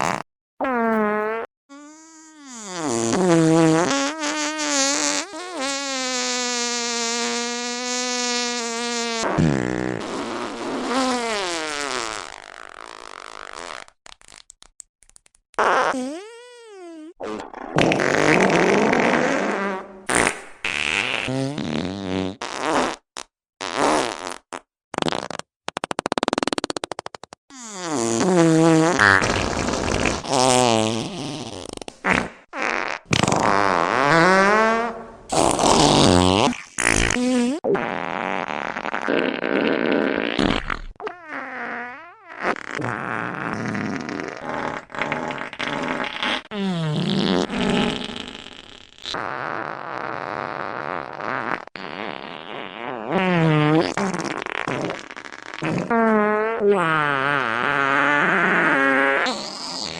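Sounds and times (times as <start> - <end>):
fart sound effects: 0.0 - 14.4, 15.6 - 59.9.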